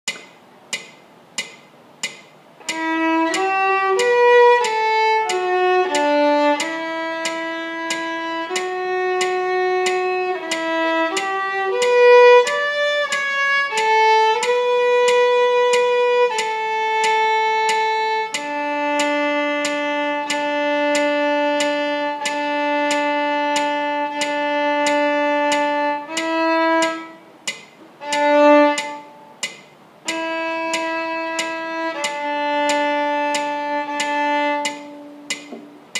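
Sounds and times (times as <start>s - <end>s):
steady metronome tick: 0.0s - 35.9s
solo viola dance tune: 0.1s - 35.9s.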